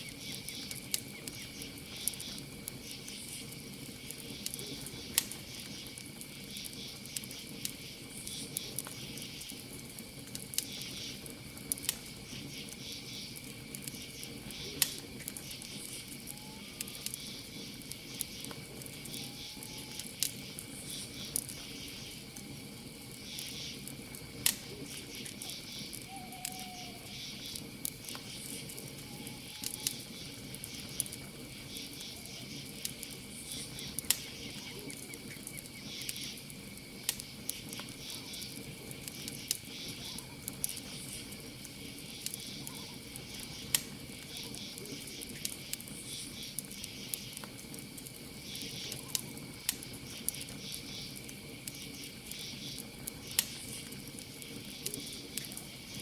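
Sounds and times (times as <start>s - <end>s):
campfire crackling and popping: 0.0s - 56.0s
crickets chirping: 0.0s - 56.0s.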